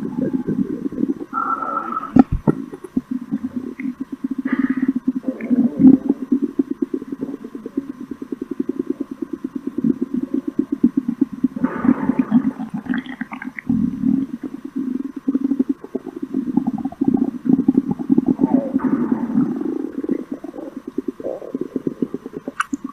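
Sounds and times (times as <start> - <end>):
stomach growling: 0.0 - 22.9.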